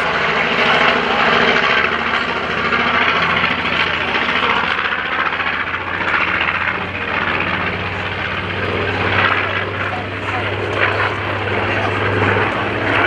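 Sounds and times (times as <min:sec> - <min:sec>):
propeller plane droning overhead: 0:00.0 - 0:13.0.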